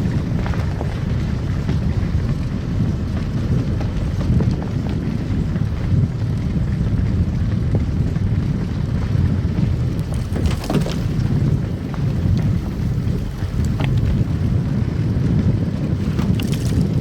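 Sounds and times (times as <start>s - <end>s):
car tyres and engine rumble: 0.0s - 17.0s
crackling: 0.0s - 17.0s.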